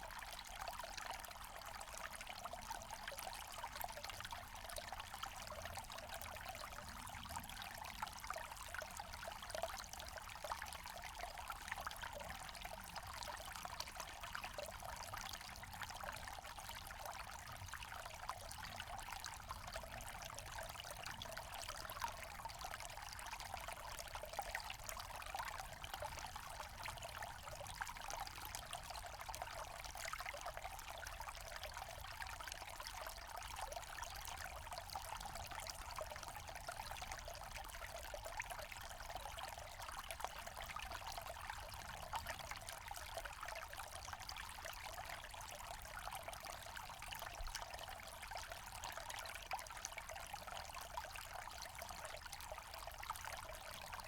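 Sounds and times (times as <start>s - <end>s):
stream trickling and splashing: 0.0s - 54.0s.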